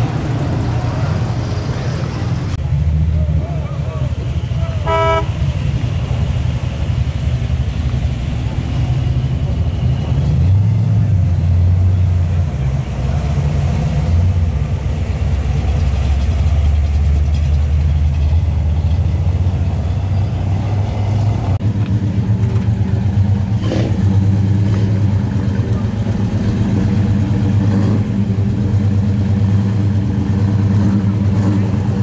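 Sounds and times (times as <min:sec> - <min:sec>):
car engine through loud exhaust: 0:00.0 - 0:32.0.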